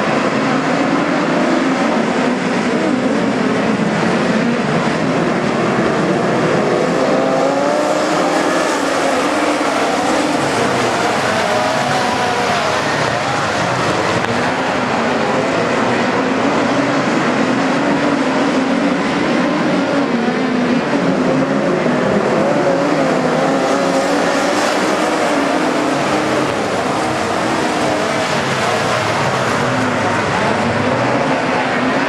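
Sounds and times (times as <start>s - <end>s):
racing car engines high revs: 0.0s - 32.0s.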